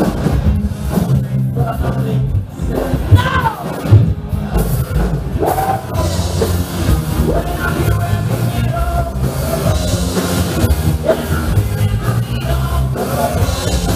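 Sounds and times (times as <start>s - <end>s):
live rock band playing: 0.0s - 13.9s.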